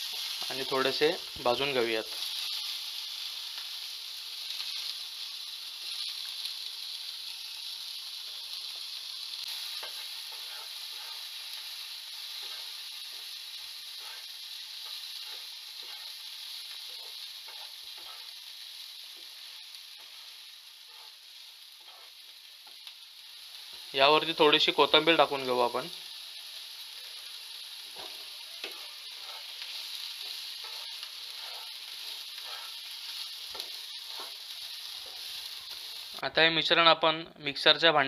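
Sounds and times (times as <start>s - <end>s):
vegetables sizzling in oil: 0.0s - 36.8s.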